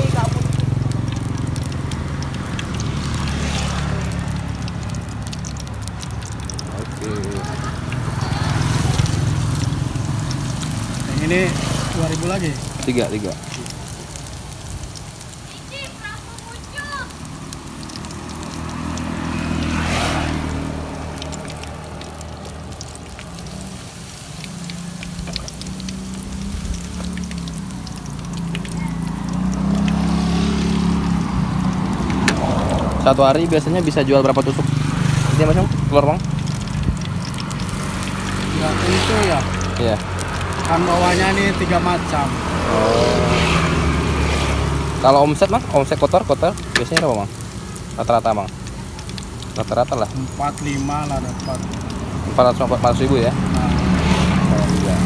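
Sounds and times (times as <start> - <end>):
oil sizzling in a wok: 0.0 - 55.0.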